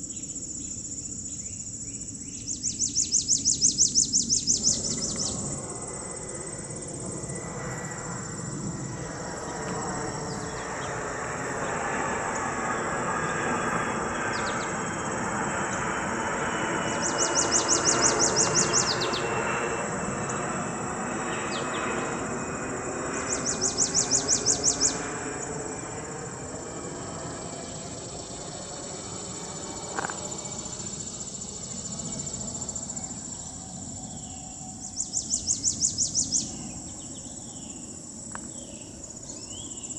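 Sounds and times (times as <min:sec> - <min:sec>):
insects trilling: 0:00.0 - 0:39.9
rapidly pulsing insect bursts: 0:02.5 - 0:37.0.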